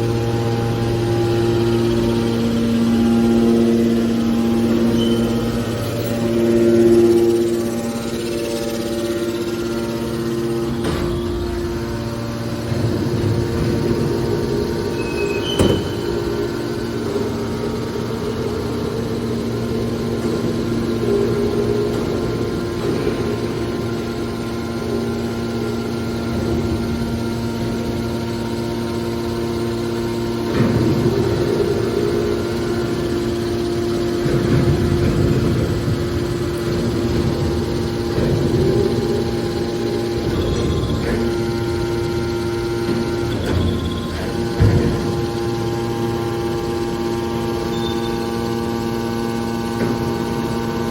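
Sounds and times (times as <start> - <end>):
baling machinery two-tone hum: 0.0 - 50.9
mechanical rumbling: 0.0 - 50.9.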